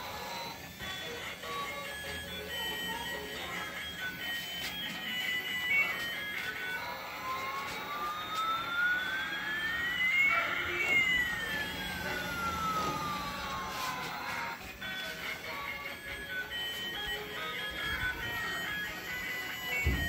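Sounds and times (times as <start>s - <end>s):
toy electronic siren wail: 0.0s - 20.0s.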